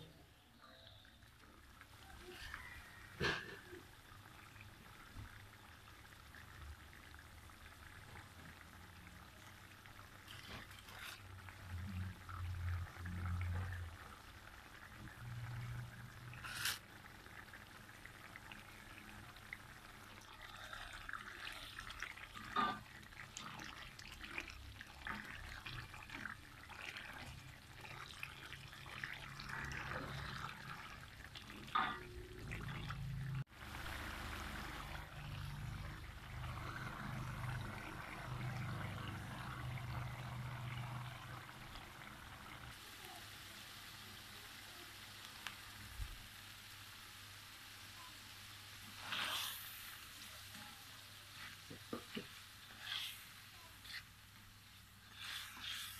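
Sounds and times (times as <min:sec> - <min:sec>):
paste bubbling in a wok: 0:00.9 - 0:55.9.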